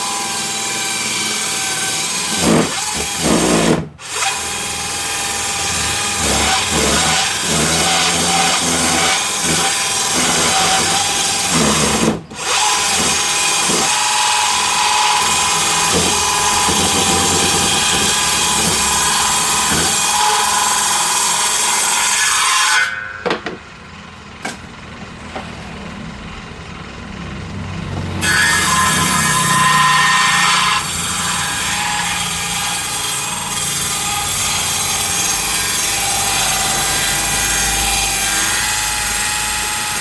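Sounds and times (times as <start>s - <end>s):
power saw ripping timber: 0.0s - 22.8s, 28.0s - 40.0s.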